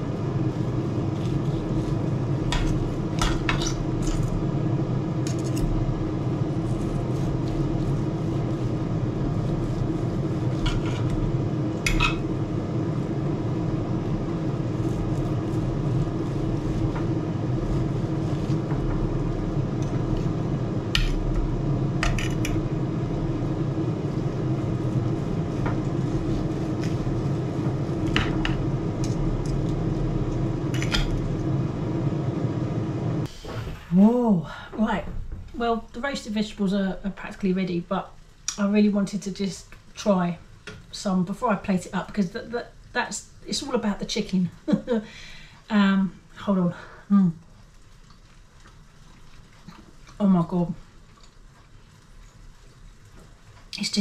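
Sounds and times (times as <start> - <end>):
air fryer fan humming: 0.0 - 54.0.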